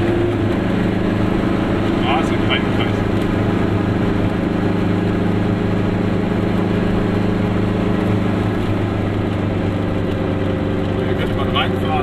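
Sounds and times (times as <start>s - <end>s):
road noise: 0.0s - 12.0s
two-stroke car engine running: 0.0s - 12.0s.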